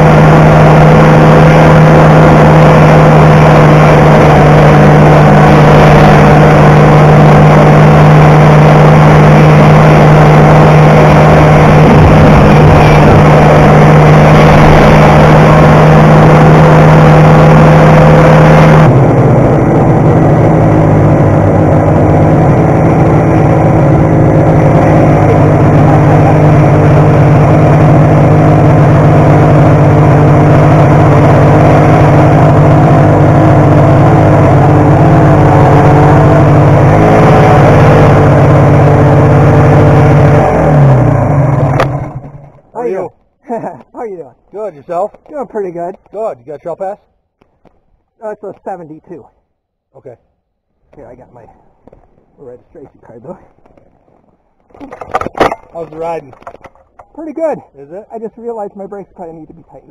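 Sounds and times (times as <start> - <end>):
snowmobile engine running: 0.0 - 49.3, 50.8 - 59.9.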